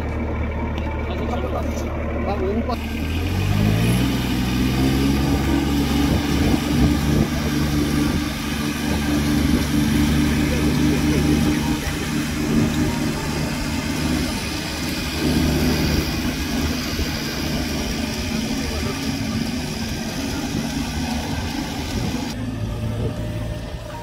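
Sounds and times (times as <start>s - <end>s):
machine engine running steadily: 0.0s - 24.0s.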